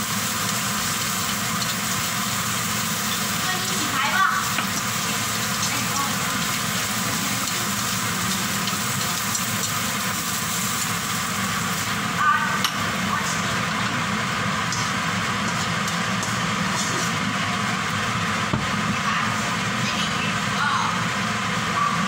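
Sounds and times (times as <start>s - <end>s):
eggs frying in a wok: 0.0s - 22.0s.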